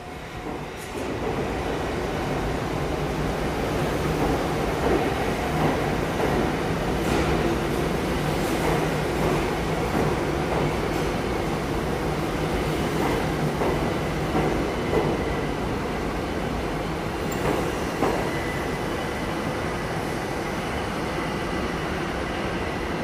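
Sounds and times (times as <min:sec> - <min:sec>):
subway train rumbling: 0:00.0 - 0:23.0.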